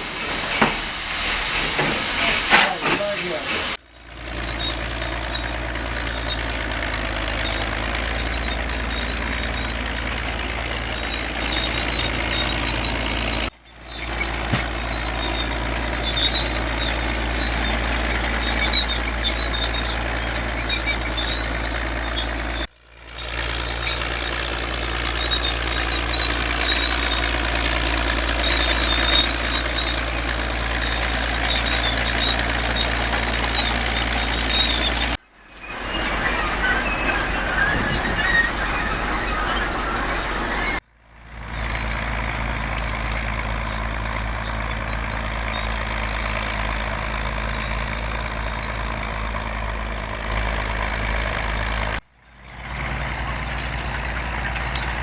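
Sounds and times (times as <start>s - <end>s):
high squeaks: 0.0s - 3.8s, 4.4s - 40.8s, 41.5s - 55.0s
bulldozer engine running: 0.0s - 55.0s.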